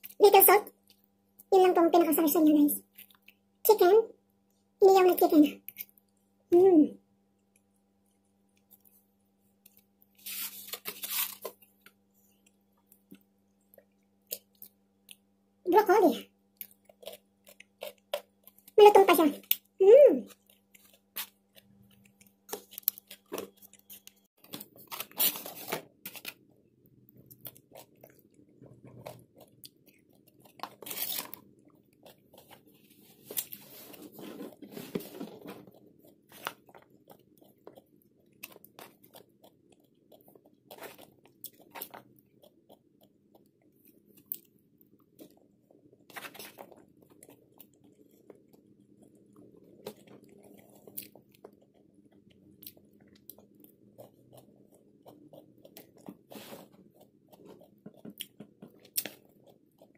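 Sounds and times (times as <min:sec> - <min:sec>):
chewing and crunching: 0:02.8 - 0:03.6, 0:07.2 - 0:15.4, 0:16.2 - 0:59.9.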